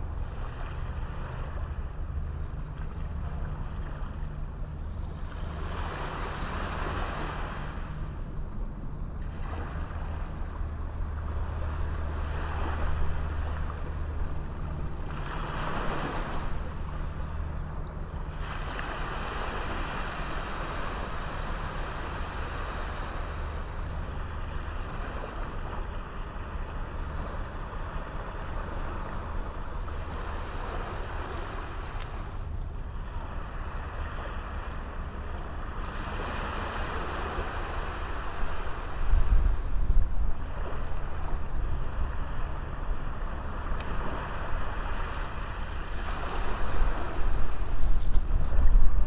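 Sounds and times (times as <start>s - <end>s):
sea waves washing onto beach: 0.3s - 8.2s, 9.3s - 49.0s
steady low rumble: 7.7s - 49.0s.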